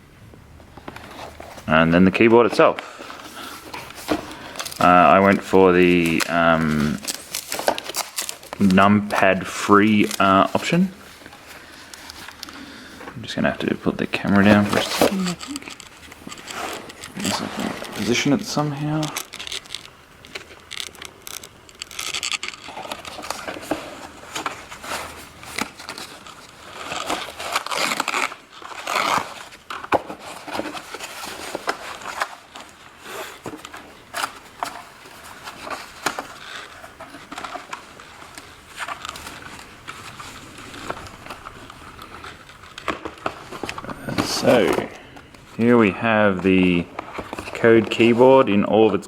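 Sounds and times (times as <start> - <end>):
rustling and crinkling: 0.3 - 49.0
scraping: 0.8 - 48.3.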